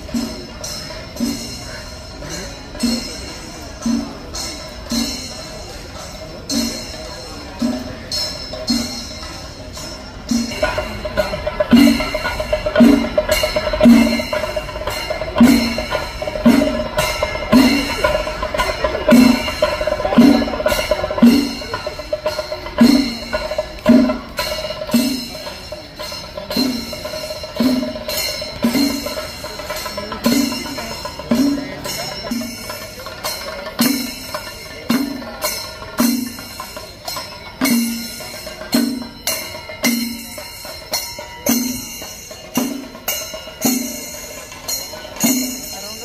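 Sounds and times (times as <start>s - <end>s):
drums beating paired strokes: 0.0s - 46.0s
metallic cymbals ringing: 0.0s - 46.0s.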